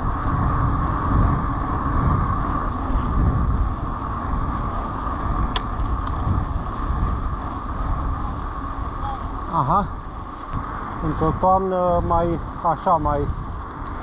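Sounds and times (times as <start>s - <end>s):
car road noise and tyre hum: 0.0s - 14.0s.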